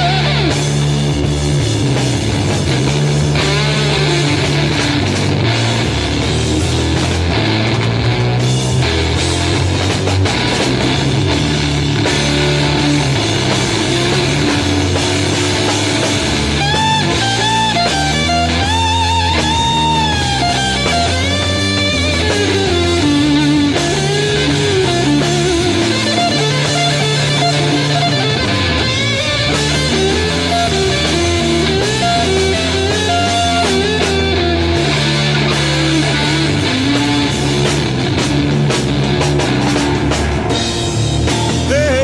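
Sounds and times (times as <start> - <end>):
gliding lead guitar: 0.0 - 42.0
rock music: 0.0 - 42.0.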